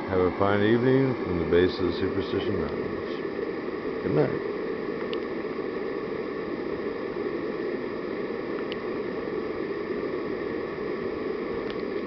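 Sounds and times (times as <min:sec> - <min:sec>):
gas torch burning with hiss: 0:00.0 - 0:12.0.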